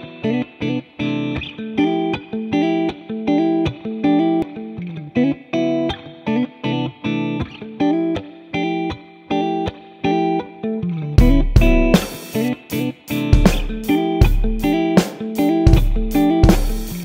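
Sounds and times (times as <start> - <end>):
guitar playing choppy chords: 0.0 - 17.0.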